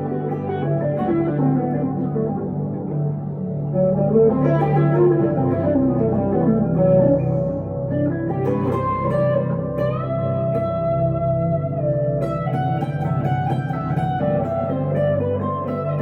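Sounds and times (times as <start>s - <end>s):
electric guitar slow melody: 0.0s - 16.0s.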